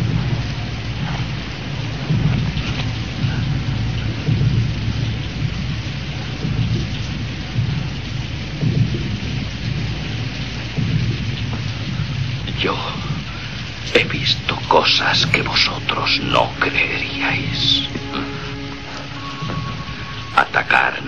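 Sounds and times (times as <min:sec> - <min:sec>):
heavy rain falling: 0:00.0 - 0:21.0
thunder rumbling: 0:00.0 - 0:21.0.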